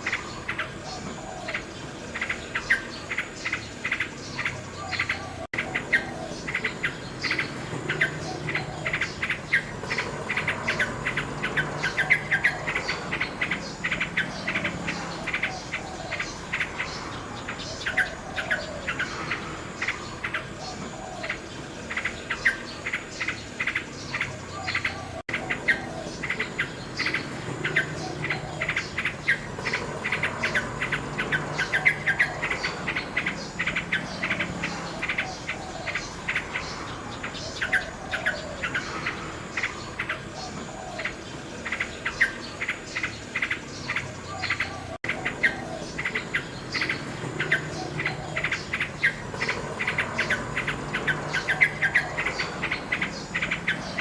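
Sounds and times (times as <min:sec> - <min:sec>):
insects chirping: 0:00.0 - 0:54.0
nightingale singing: 0:00.0 - 0:54.0.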